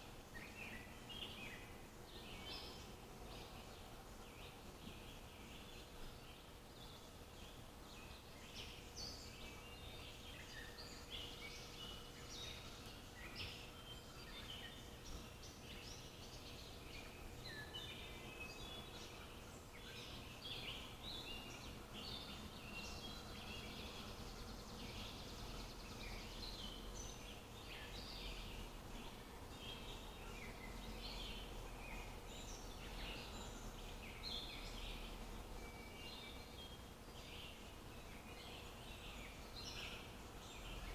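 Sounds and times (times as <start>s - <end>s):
faint steady hum: 0.0s - 40.9s
small birds chirping: 0.0s - 40.9s.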